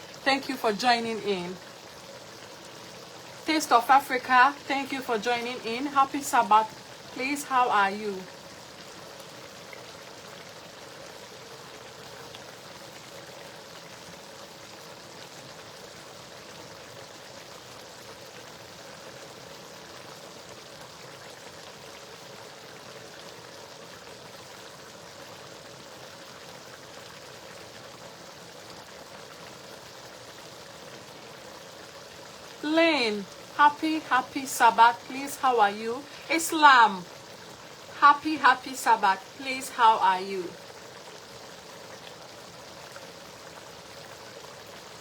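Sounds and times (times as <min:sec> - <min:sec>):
stew sizzling in a pot: 0:00.0 - 0:45.0.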